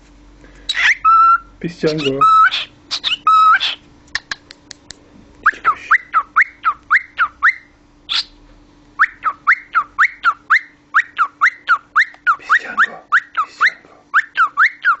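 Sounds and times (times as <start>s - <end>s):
cockatiel whistling: 0.7s - 4.4s, 5.4s - 8.4s, 9.0s - 15.0s.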